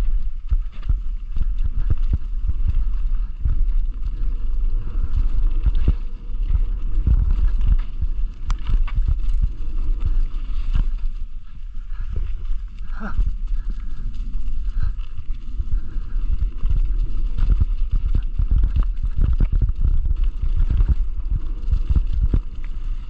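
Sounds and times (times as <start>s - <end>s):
bike frame rattling and knocking: 0.0s - 22.7s
wind rushing on microphone: 0.0s - 23.0s.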